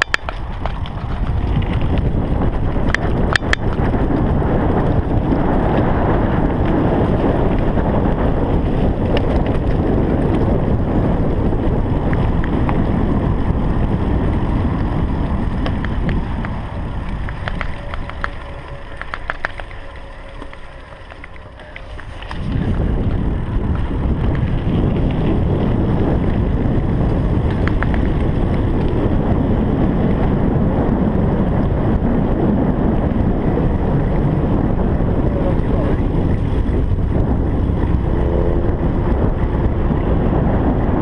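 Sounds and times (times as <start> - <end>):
bike clicks and rattles: 0.0 - 41.0
bike tyres rumbling on dirt: 0.0 - 41.0
wind buffeting microphone: 0.0 - 41.0.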